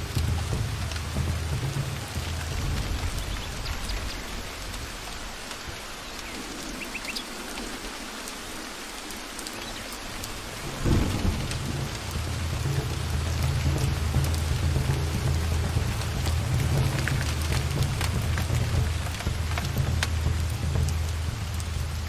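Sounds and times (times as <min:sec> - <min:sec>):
rolling thunder: 0:00.0 - 0:06.9, 0:10.1 - 0:22.0
steady rain in forest: 0:00.0 - 0:22.0.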